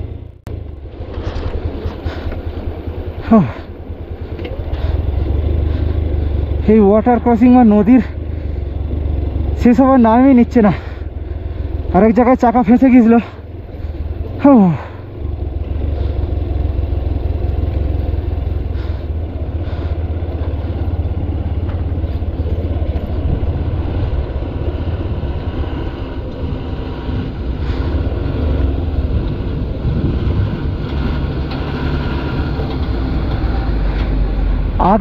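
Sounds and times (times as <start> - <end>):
dump truck engines: 0.0 - 35.0
motorcycle engine low rumble: 0.0 - 35.0.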